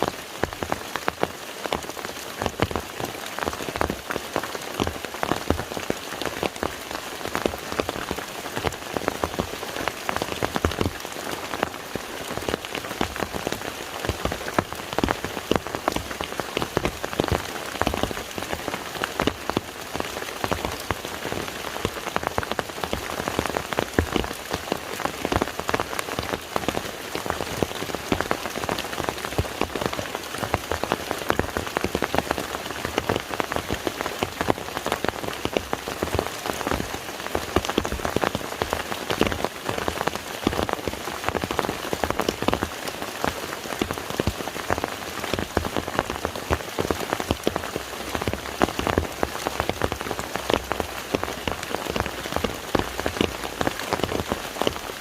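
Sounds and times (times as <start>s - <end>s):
rain falling on lake water: 0.0s - 55.0s.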